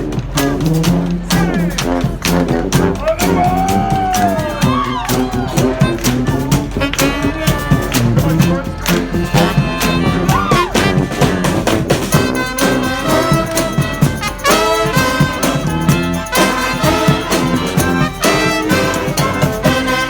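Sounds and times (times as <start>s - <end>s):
brass band playing: 0.0s - 20.0s
steady drum beat: 0.0s - 20.0s
horn swooping in pitch: 0.4s - 20.0s.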